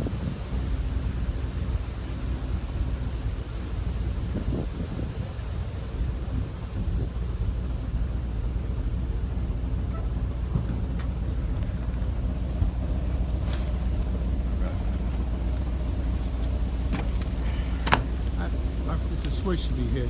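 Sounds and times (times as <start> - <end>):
fire truck engine idling: 0.0 - 20.0.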